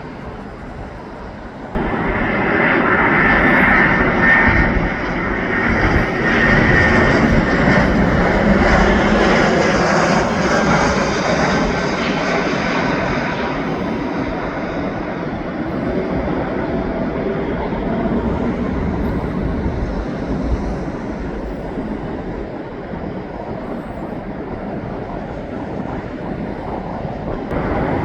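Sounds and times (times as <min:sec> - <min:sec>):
airliner engine rush with whine: 0:00.0 - 0:28.0.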